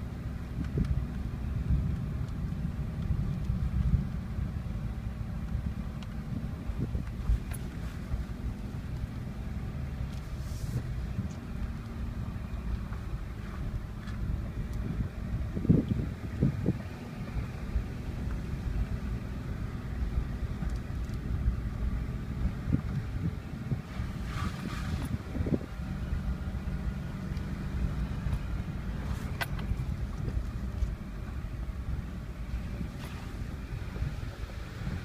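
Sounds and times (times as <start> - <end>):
engine and tyre rumble: 0.0 - 35.0.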